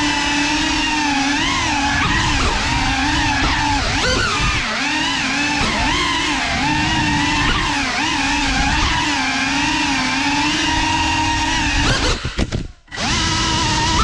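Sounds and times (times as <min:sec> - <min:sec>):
drone motors and propellers whining: 0:00.0 - 0:14.0.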